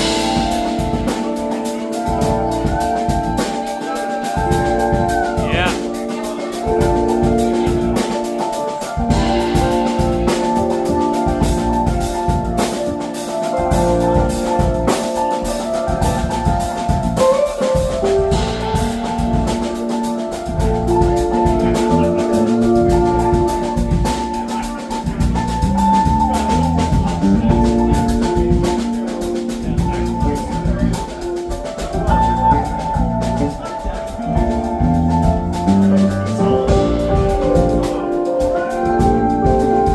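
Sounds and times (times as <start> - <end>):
drum kit beat: 0.0 - 39.9
instrumental band music: 0.0 - 39.9.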